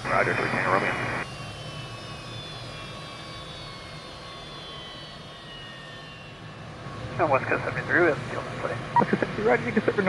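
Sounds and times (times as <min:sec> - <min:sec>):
jet engine roar with turbine whine: 0:00.0 - 0:10.0.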